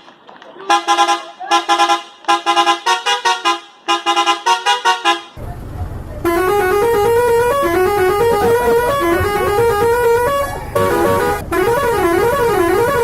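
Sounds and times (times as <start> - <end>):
musical bus horn: 0.7 - 5.4, 6.2 - 13.0.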